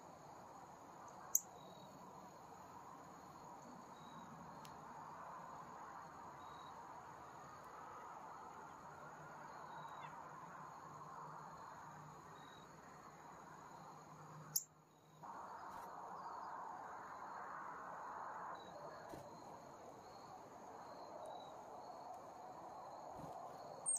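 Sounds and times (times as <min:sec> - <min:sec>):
crickets chirring: 0:00.0 - 0:23.9.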